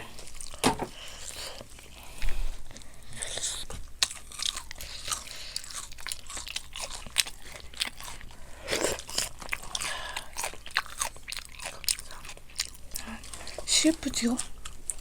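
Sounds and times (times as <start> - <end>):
crunchy chewing of fried chicken: 0.0 - 15.0.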